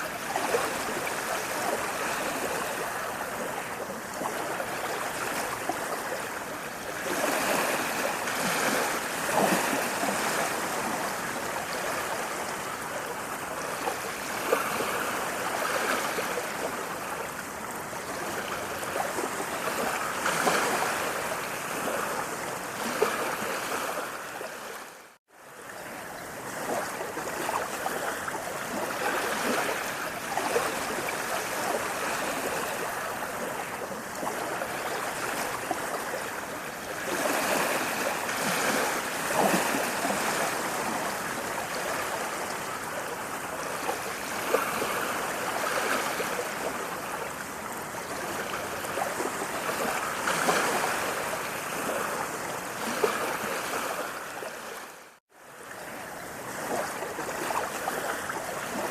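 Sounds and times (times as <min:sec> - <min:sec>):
rushing flowing water: 0:00.0 - 0:58.9
small water splashes: 0:00.0 - 0:58.9.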